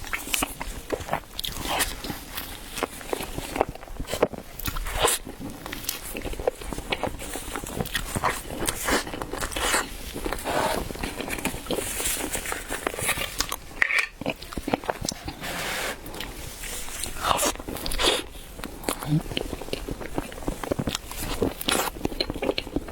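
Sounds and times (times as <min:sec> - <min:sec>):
person biting and chewing bread: 0:00.0 - 0:22.9.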